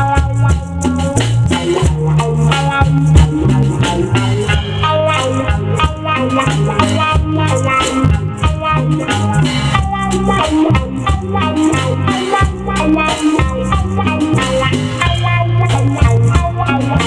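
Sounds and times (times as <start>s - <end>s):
congas: 0.0s - 17.0s
drum kit: 0.0s - 17.0s
electric bass guitar: 0.0s - 17.0s
electric guitar: 0.0s - 17.0s
shaken percussion pulse: 0.0s - 17.0s.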